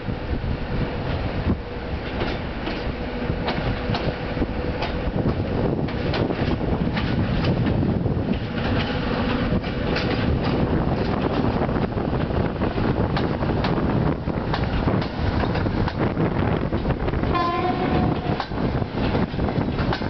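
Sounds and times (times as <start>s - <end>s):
diesel locomotive engine rumble: 0.0s - 20.0s
wheels clicking over rail joints: 2.0s - 20.0s.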